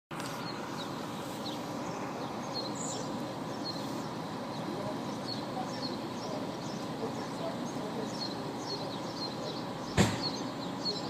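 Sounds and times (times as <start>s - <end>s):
diesel engines idling: 0.1s - 11.0s
small birds chirping: 0.1s - 11.0s.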